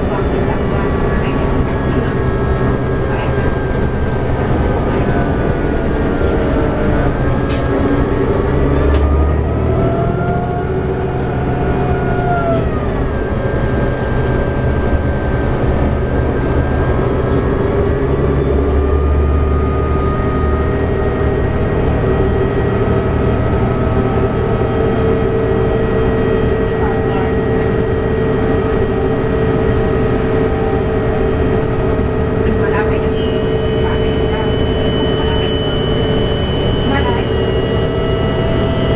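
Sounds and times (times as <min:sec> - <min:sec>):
diesel bus engine running: 0:00.0 - 0:38.9
road and tyre rumble: 0:00.0 - 0:38.9
whine dropping in pitch: 0:00.0 - 0:38.9.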